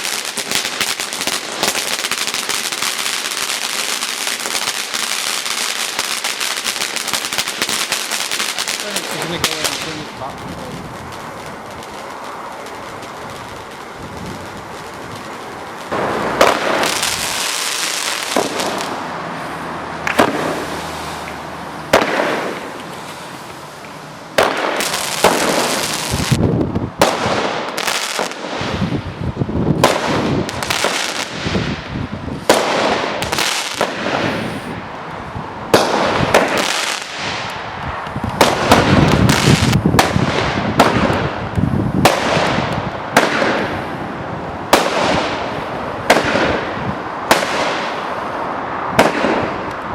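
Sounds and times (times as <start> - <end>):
fireworks crackling bursts: 0.0 - 49.9
fireworks launching and banging: 0.0 - 49.9.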